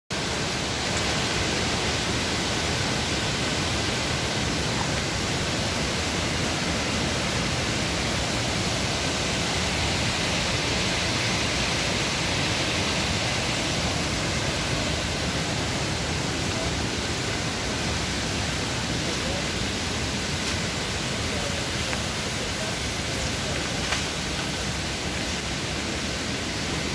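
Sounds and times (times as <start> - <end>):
river water rushing: 0.2 - 26.9.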